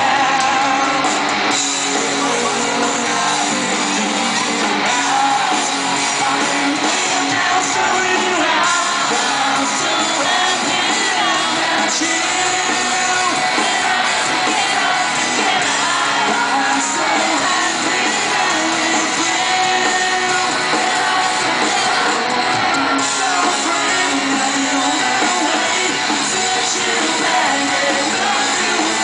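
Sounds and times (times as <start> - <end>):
crowd singing along and shouting: 0.0 - 29.0
live rock band playing: 0.0 - 29.0
man singing lead vocal: 0.0 - 29.0.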